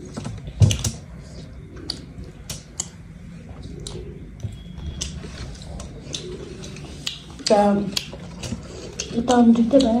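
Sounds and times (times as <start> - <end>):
chewing with mouth smacks: 0.7 - 10.0.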